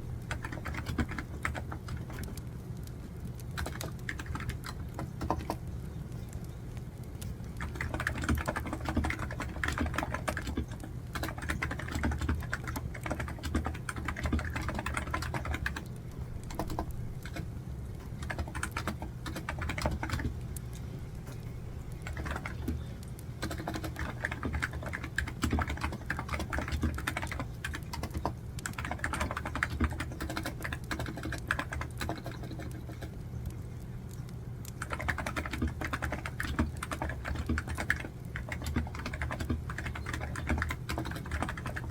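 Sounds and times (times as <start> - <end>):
typing on computer keyboard: 0.0 - 6.5, 7.2 - 41.9.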